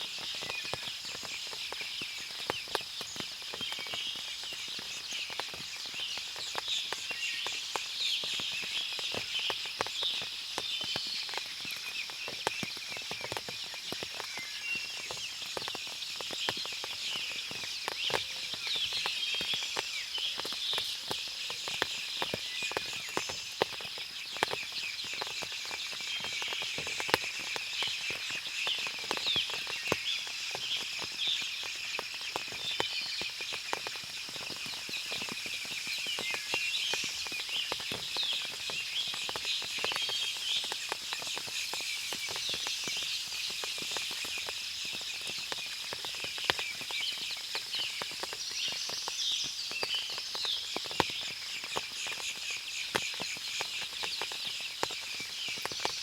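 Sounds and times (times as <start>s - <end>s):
small birds chirping: 0.0s - 56.0s
water dripping from trees: 0.0s - 56.0s.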